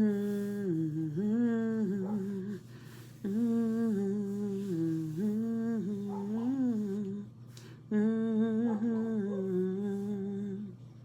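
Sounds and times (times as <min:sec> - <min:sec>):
woman humming: 0:00.0 - 0:10.8.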